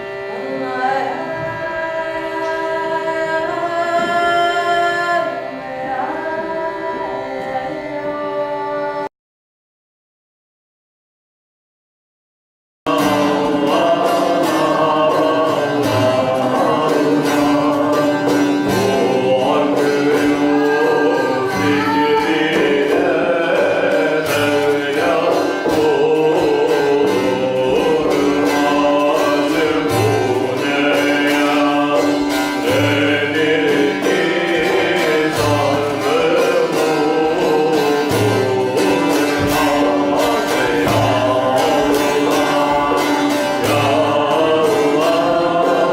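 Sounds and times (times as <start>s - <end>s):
instrumental accompaniment: 0.0s - 9.1s, 12.9s - 45.9s
voices singing: 0.0s - 9.1s, 12.9s - 45.9s.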